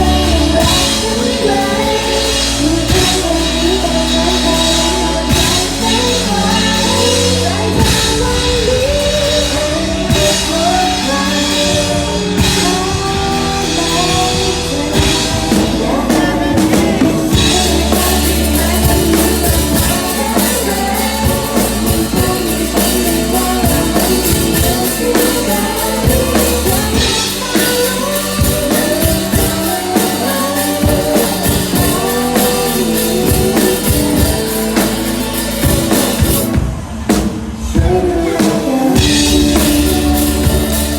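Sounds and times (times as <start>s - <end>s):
drum kit beat: 0.0s - 40.9s
guitar: 0.0s - 40.9s
pop-rock band playing: 0.0s - 40.9s.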